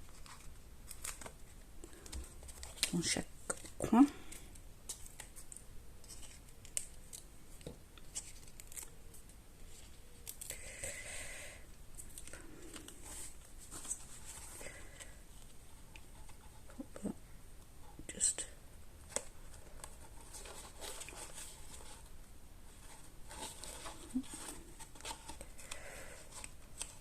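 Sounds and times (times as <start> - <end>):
paper rustling: 0.0 - 3.9, 4.8 - 10.5, 12.0 - 16.9, 19.0 - 27.0.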